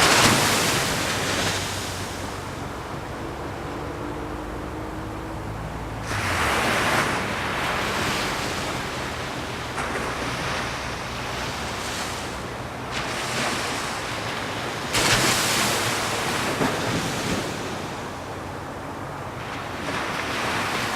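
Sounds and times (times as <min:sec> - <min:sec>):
waves breaking: 0:00.0 - 0:20.9.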